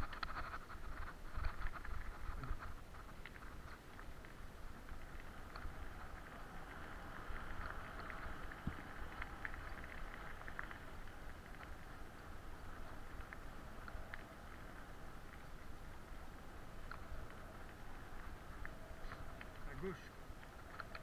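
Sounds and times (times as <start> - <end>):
bicycle tyres on dirt track: 0.0 - 21.0.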